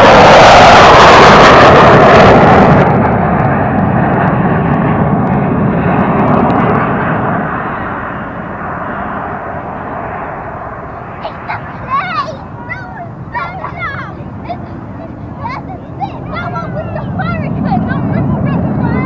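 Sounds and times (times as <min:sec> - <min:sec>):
aircraft roaring past: 0:00.0 - 0:19.0.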